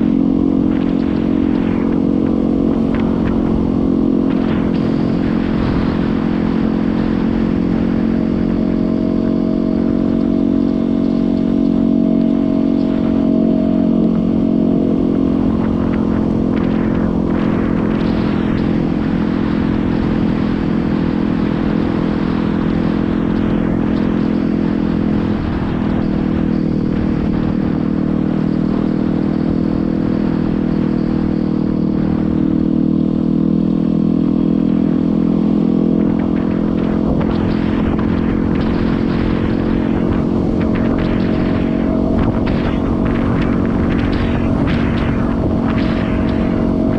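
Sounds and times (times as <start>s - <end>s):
dirt bike engine cruising: 0.0s - 46.9s
wind rumbling on microphone: 0.0s - 46.9s.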